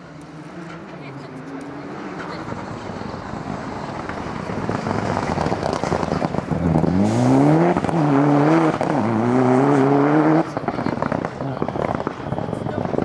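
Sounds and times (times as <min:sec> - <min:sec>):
engine crackles: 0:00.0 - 0:13.0
rally car engine accelerating: 0:00.0 - 0:13.0.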